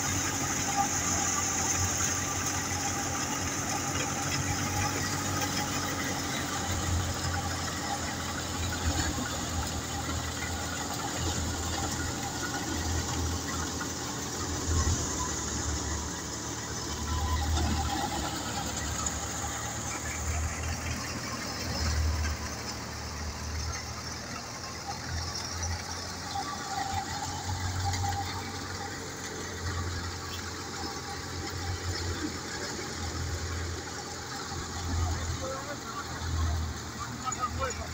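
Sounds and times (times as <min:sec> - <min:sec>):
tractor engine hum: 0:00.0 - 0:37.9.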